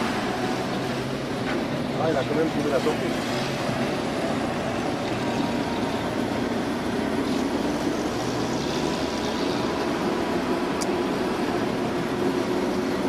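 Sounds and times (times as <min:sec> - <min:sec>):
road noise: 0:00.0 - 0:13.0
truck engines running: 0:00.0 - 0:13.0.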